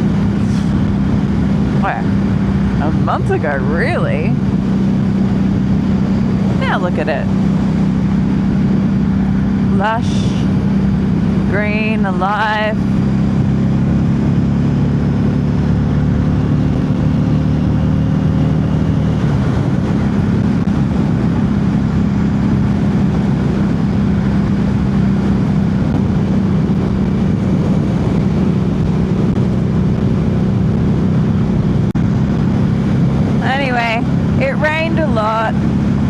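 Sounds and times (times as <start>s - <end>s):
motorcycle engine running: 0.0s - 36.0s
wind and road noise: 0.0s - 36.0s.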